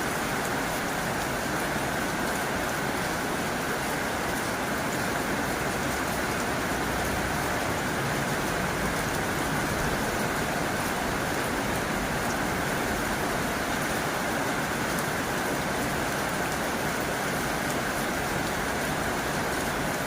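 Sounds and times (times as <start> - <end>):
heavy rain on a tin roof: 0.0 - 20.0.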